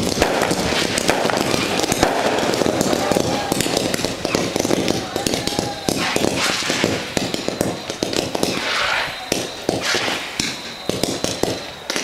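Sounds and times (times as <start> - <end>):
firework hissing rushes: 0.0 - 12.0
firework pops and bangs: 0.0 - 12.0.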